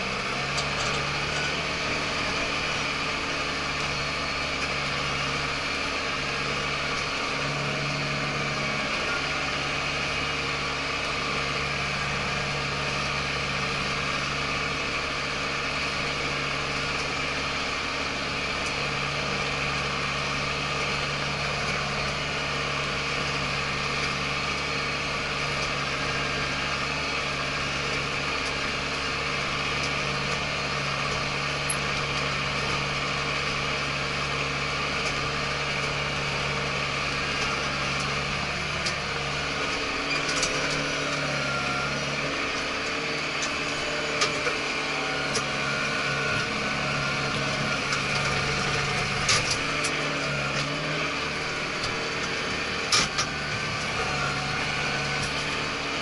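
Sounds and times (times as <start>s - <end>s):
tractor diesel engine hum: 0.0s - 56.0s.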